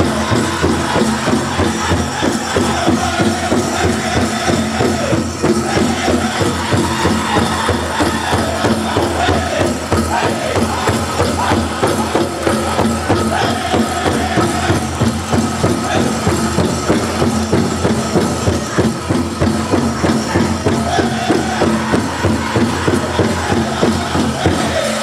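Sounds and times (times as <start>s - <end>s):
large drum beating: 0.0s - 25.0s
men singing: 0.0s - 25.0s.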